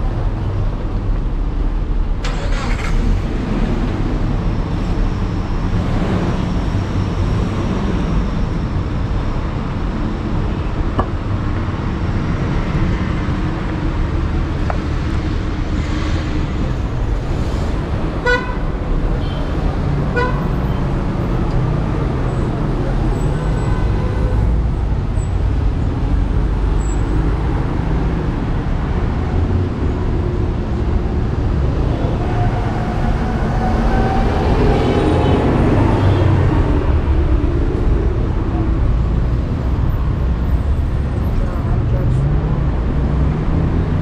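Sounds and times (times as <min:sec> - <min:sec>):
traffic rumble: 0:00.0 - 0:44.0.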